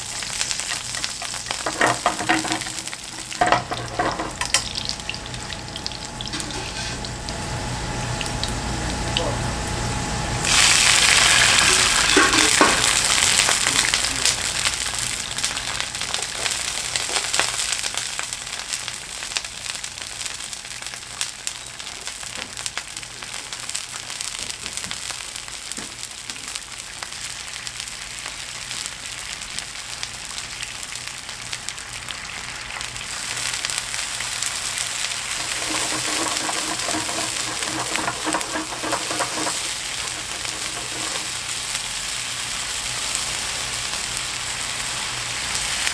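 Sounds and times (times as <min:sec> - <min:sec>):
food sizzling in oil: 0:00.0 - 0:45.9.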